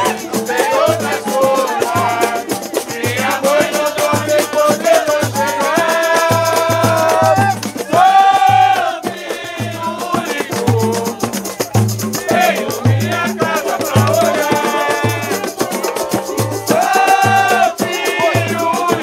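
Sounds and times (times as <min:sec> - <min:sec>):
cavaquinho strumming: 0:00.0 - 0:19.0
rattling hand drums: 0:00.0 - 0:19.0
voices singing: 0:00.0 - 0:19.0.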